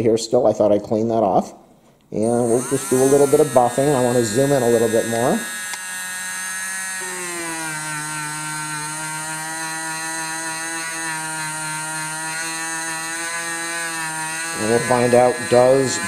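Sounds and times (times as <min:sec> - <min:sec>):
rotary tool motor whining: 0:02.2 - 0:16.0.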